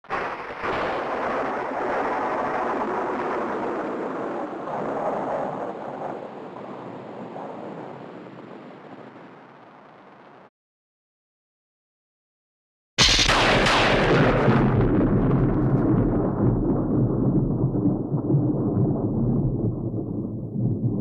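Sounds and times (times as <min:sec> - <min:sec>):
thunder rumble: 0:00.1 - 0:10.1, 0:13.0 - 0:21.0.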